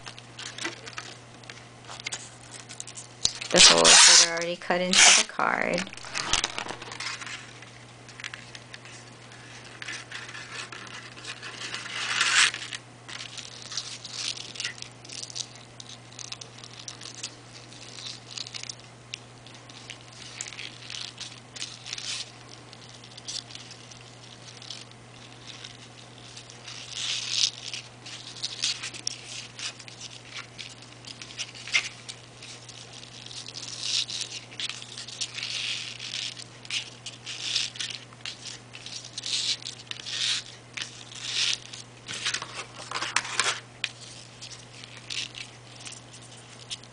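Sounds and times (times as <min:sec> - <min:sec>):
ribbon rustling through paper: 0:00.0 - 0:46.9
steady low hum: 0:00.0 - 0:46.9.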